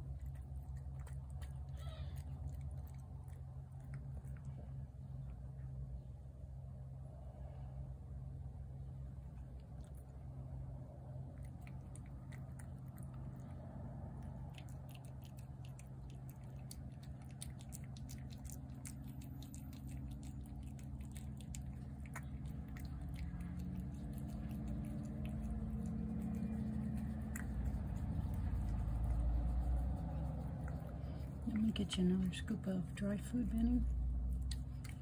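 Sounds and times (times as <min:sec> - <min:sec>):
cat chewing and licking food: 0:00.0 - 0:05.8, 0:08.9 - 0:35.0
low rumble: 0:00.0 - 0:35.0
steady low hum: 0:00.0 - 0:35.0.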